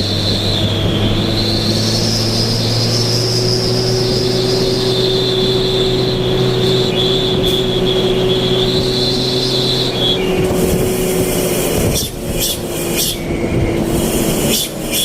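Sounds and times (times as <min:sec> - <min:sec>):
motorcycle engine running loudly: 0:00.0 - 0:15.0
sharp exhaust bursts: 0:00.0 - 0:15.0.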